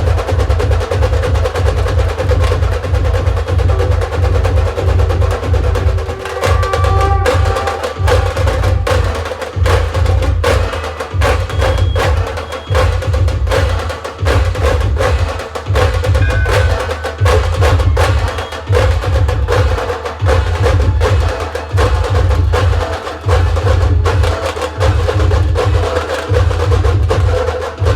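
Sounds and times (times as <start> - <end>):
deep dhol drum beats: 0.0 - 27.9
rapid sharp tasha drum strokes: 0.0 - 27.9.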